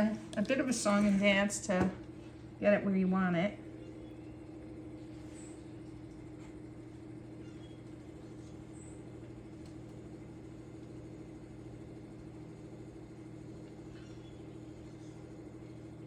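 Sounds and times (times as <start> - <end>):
potter's wheel motor humming: 0.0 - 16.0.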